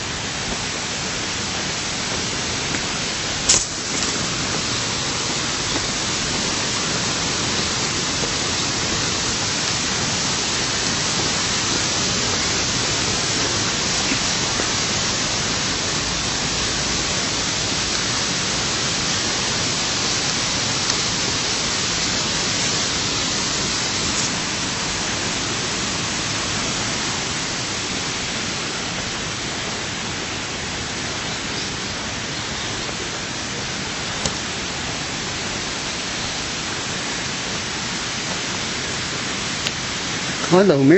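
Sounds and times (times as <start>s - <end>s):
rush of running water: 0.0s - 40.9s.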